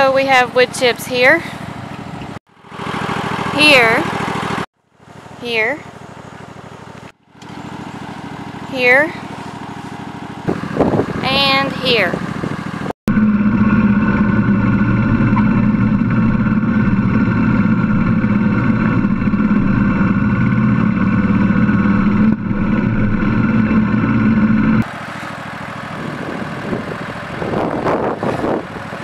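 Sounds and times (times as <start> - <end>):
lawn tractor engine running: 1.5 - 29.0.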